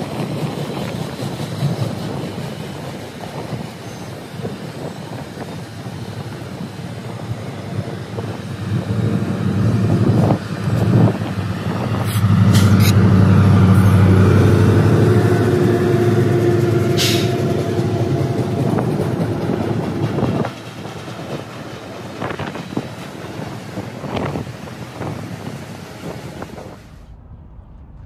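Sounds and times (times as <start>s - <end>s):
diesel locomotive drone: 0.0s - 28.0s
train rushing noise: 0.0s - 28.0s.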